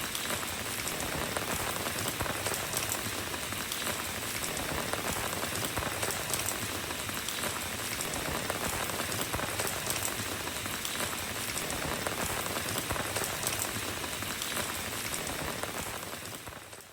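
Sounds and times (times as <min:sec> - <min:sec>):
rain falling on a road: 0:00.0 - 0:16.9.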